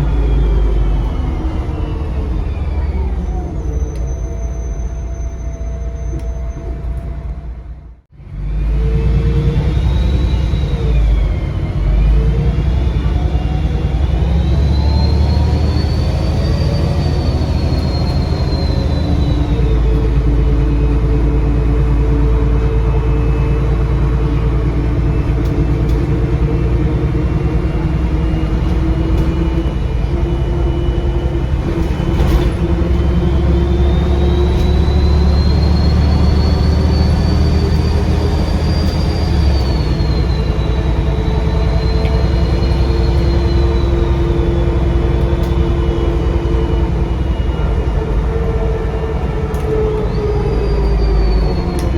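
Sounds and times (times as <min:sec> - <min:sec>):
turbocharger whistle: 0:00.0 - 0:07.4, 0:08.2 - 0:51.9
bus diesel engine running: 0:00.0 - 0:51.9.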